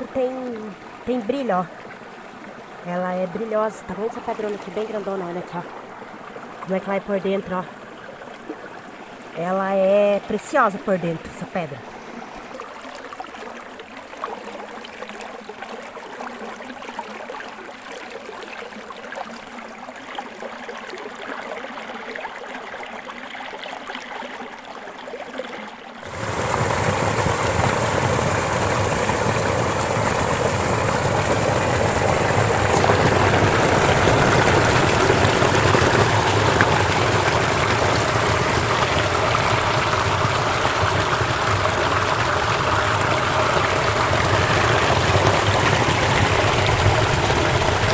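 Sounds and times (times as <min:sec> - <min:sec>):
stream running over rocks: 0:00.0 - 0:47.9.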